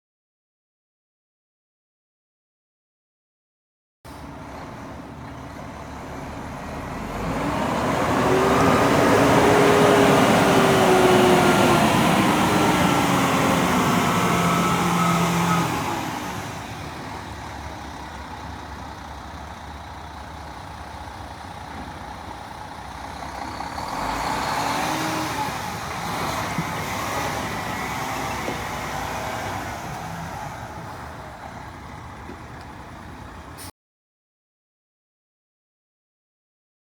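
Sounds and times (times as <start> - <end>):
diesel truck engine running: 4.1 - 33.7.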